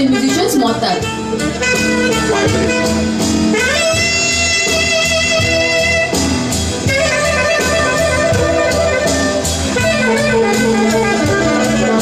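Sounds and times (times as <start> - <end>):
drum and bass beat: 0.0 - 12.0
jazz saxophone lead: 0.0 - 12.0.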